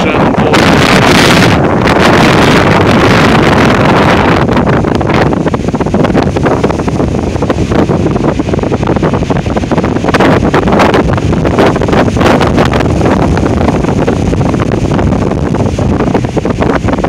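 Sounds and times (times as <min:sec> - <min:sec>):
wind buffeting microphone: 0:00.0 - 0:17.0
wind roaring through trees: 0:00.0 - 0:17.0.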